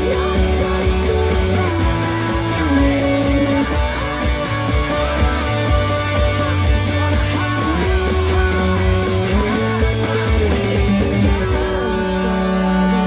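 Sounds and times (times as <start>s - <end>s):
lead guitar sliding notes: 0.0s - 13.0s
pop-rock band playing: 0.0s - 13.0s.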